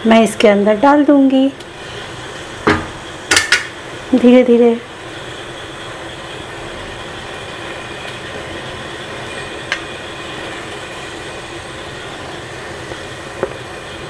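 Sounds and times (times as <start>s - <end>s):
gravy hissing in a pot: 0.0s - 14.0s.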